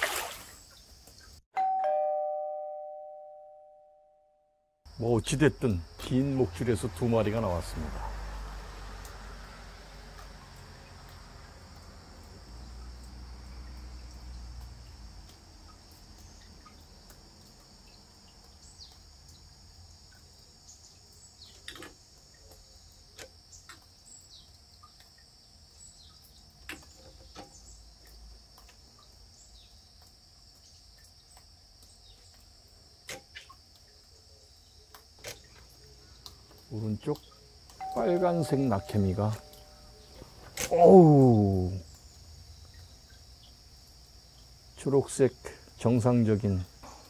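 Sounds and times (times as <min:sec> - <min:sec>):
crickets chirping: 0:00.0 - 0:01.4, 0:04.9 - 0:47.0.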